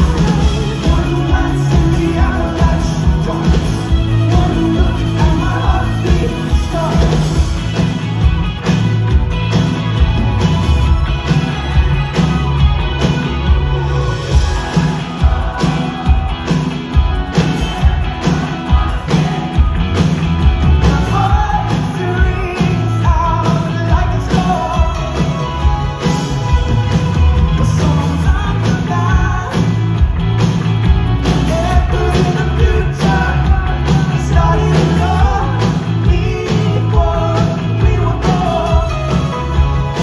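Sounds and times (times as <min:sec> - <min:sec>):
lead singer: 0:00.0 - 0:40.0
live rock band: 0:00.0 - 0:40.0
steady drum beat: 0:00.0 - 0:40.0.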